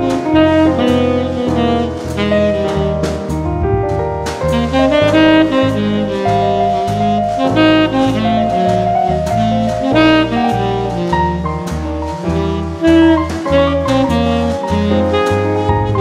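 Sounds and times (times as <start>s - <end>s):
bass line: 0.0s - 16.0s
drums keeping time: 0.0s - 16.0s
saxophone melody: 0.0s - 16.0s.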